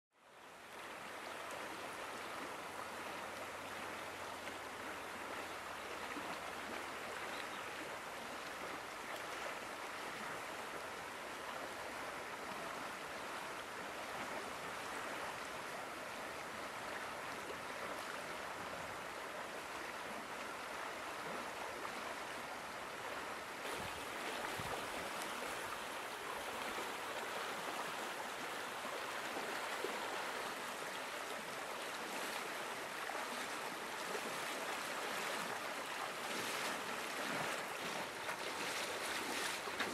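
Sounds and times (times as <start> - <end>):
river rushing over rapids: 7.8 - 39.9.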